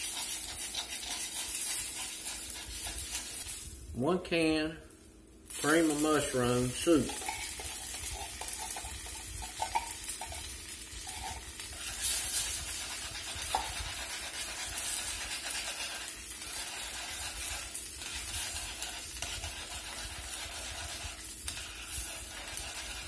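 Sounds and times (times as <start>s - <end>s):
tongs scraping and clicking on pan: 0.0s - 3.6s, 5.5s - 23.0s
liquid sizzling in a pan: 0.0s - 3.9s, 4.9s - 23.0s.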